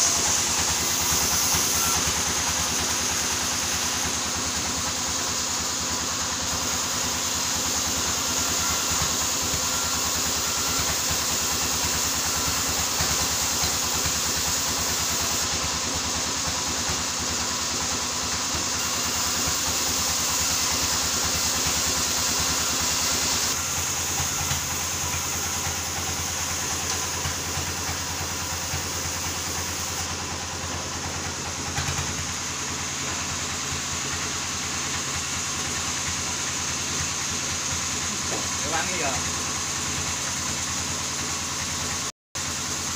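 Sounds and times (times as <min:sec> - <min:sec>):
sawmill saw cutting wood: 0:00.0 - 0:42.9.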